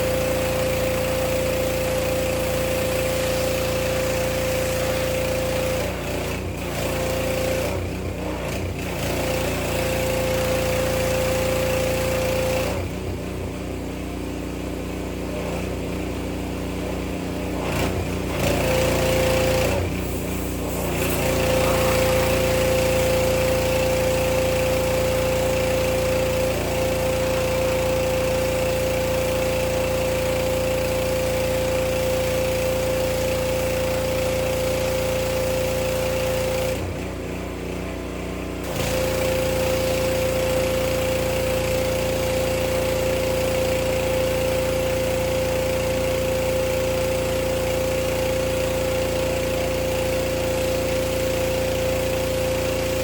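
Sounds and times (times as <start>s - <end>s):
pressure washer engine running: 0.0s - 53.0s.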